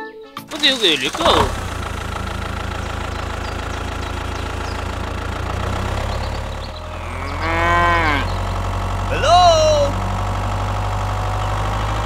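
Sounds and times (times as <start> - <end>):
tractor engine idling: 0.4 - 12.0
drawn-out call: 0.5 - 12.0.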